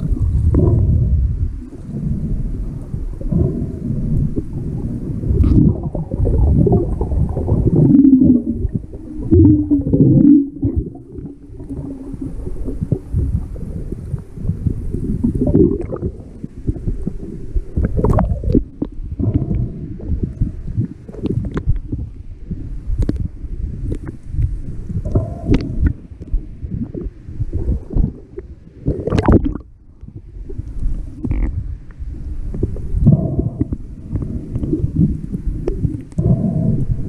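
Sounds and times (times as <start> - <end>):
water splashing: 0.0 - 29.8
underwater rumbling and gurgling: 0.0 - 37.0.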